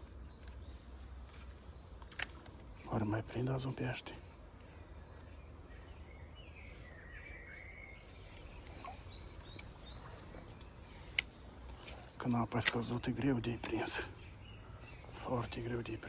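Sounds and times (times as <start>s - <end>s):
outdoor background noise: 0.0s - 16.0s
small bird chirping: 0.0s - 16.0s.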